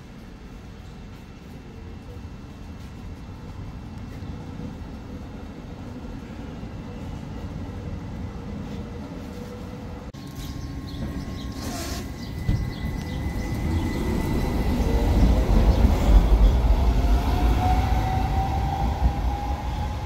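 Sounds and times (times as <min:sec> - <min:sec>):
tram rumbling on track: 0:00.0 - 0:20.0.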